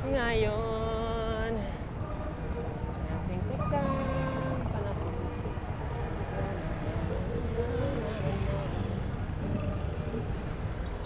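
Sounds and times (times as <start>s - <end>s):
road and traffic rumble: 0.0s - 11.0s.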